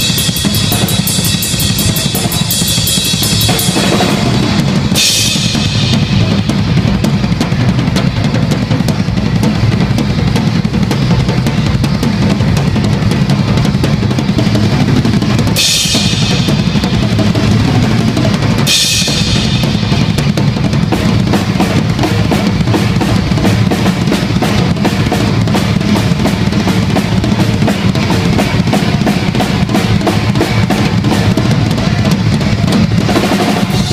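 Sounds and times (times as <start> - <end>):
cymbal crashes: 0.0 - 33.9
double bass drum pounding: 0.0 - 33.9
snare and tom strikes: 0.0 - 33.9.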